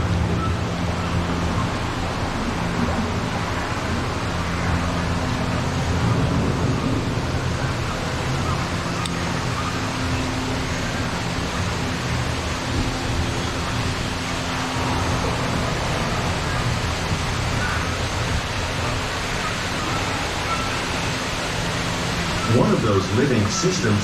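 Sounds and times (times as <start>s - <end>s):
low hum: 0.0s - 24.0s
ride boat rumbling: 0.0s - 24.0s
steady rushing noise: 0.0s - 24.0s.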